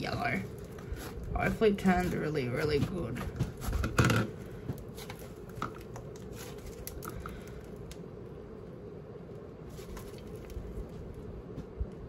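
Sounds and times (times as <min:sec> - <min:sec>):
slime squishing: 0:00.0 - 0:11.6.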